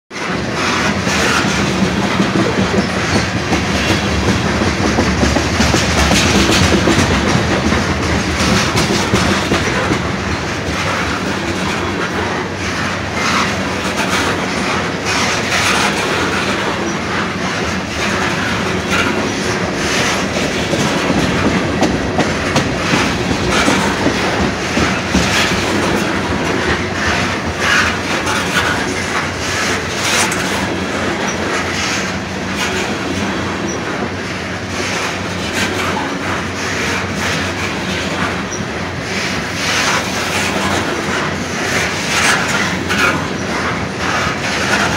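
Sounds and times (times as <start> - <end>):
freight train rumbling past: 0.1 - 44.9
wheels clicking over rail joints: 0.5 - 44.9.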